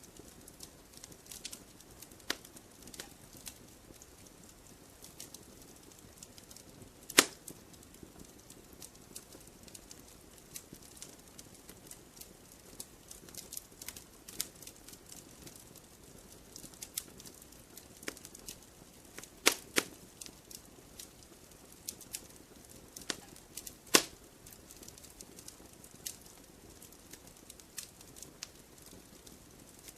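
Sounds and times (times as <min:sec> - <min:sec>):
faint low hiss: 0:00.0 - 0:29.9
wood fire crackling and popping: 0:00.0 - 0:29.9.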